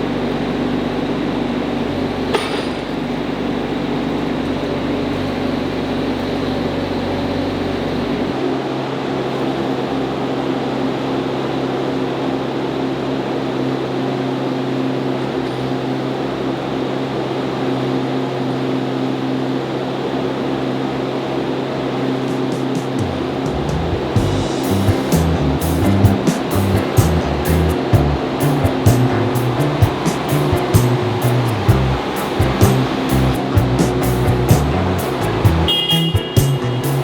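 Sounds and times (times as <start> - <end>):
excavator diesel engine droning: 0.0 - 37.0.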